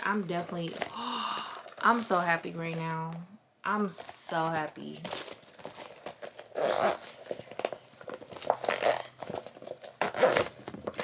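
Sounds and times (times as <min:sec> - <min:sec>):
plastic bag crinkling: 0:00.0 - 0:02.9, 0:04.8 - 0:11.0.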